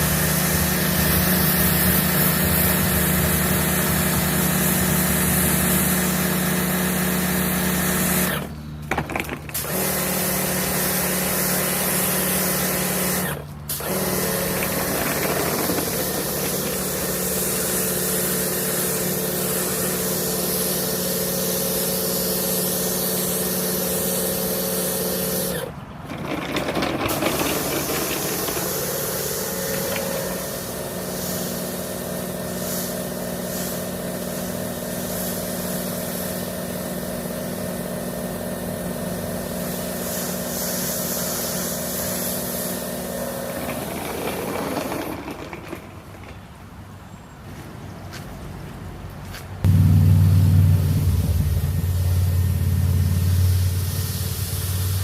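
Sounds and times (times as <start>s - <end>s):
pressure washer spraying: 0.0s - 46.4s, 49.7s - 55.0s.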